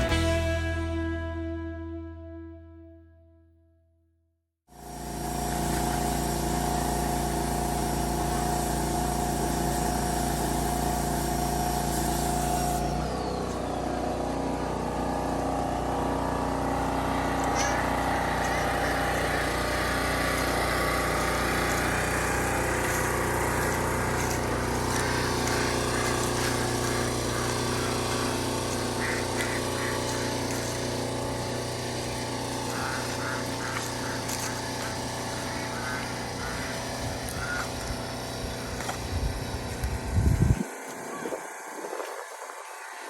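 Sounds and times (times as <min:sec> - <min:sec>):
engine running: 0:00.0 - 0:01.9, 0:04.7 - 0:43.0.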